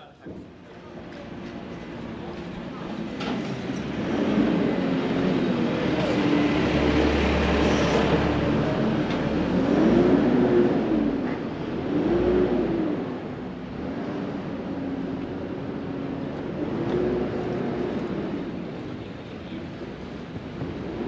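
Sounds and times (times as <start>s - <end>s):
vehicles passing close by: 0.5s - 21.0s.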